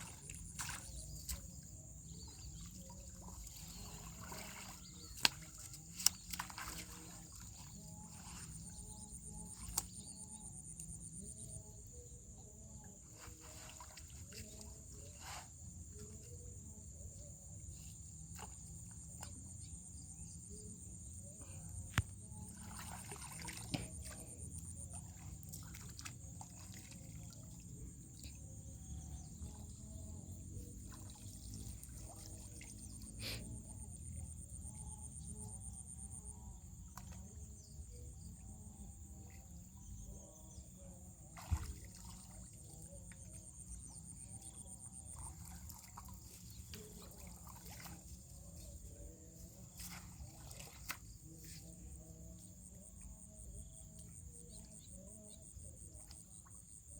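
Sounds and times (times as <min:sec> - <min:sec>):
faint water sounds: 0:00.0 - 0:56.9
insects trilling: 0:00.0 - 0:56.9.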